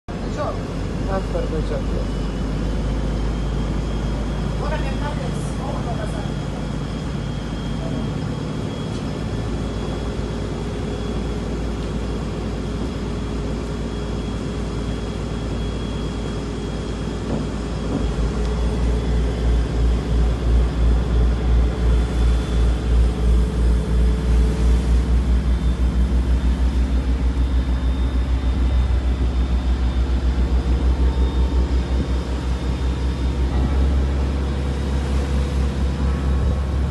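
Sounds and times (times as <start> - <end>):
boat engine running: 0.1 - 36.9.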